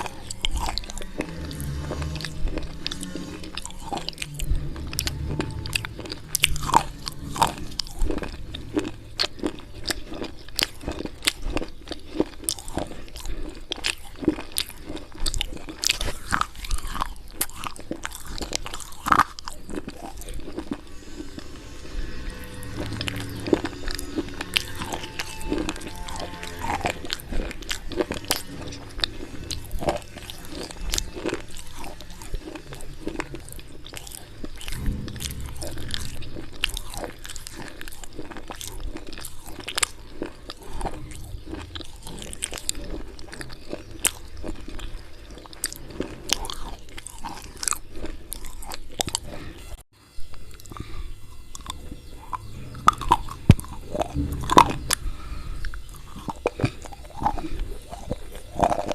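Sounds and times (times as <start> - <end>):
dry crunches of chewing chalk: 0.0 - 49.8, 50.4 - 58.9.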